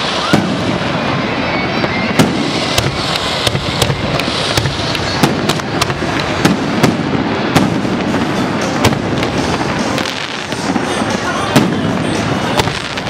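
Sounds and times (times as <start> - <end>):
fireworks launches and crackle: 0.0 - 13.0
fireworks shells bursting: 0.0 - 13.0.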